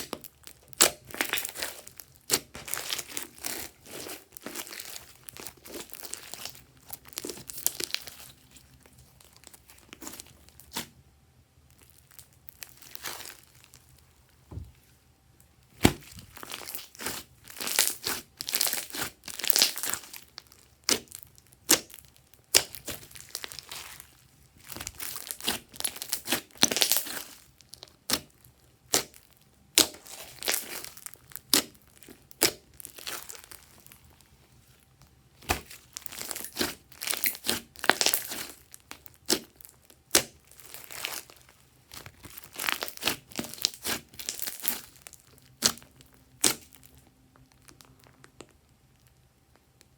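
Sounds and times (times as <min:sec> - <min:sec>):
slime squished by hand: 0:00.0 - 0:11.0, 0:11.7 - 0:14.8, 0:15.6 - 0:34.3, 0:35.4 - 0:49.9.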